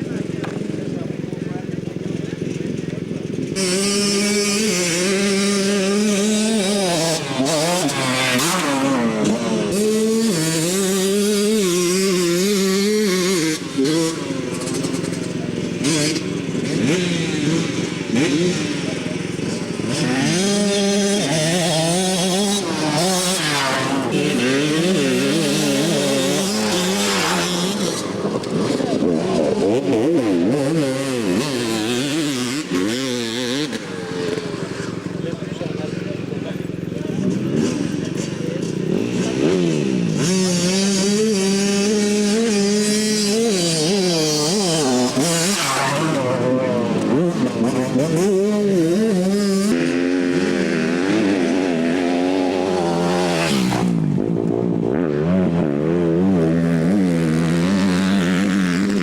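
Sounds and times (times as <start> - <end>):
motocross engines revving: 0.0 - 59.0.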